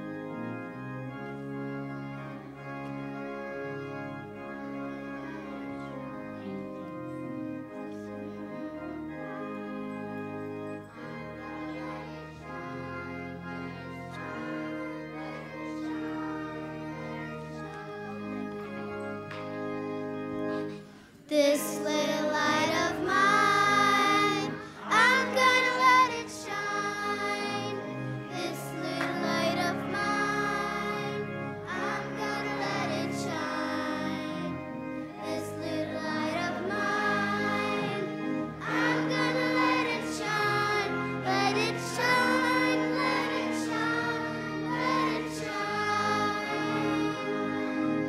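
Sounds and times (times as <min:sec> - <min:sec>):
children's choir singing: 0:00.0 - 0:48.0
instrumental accompaniment: 0:00.0 - 0:48.0.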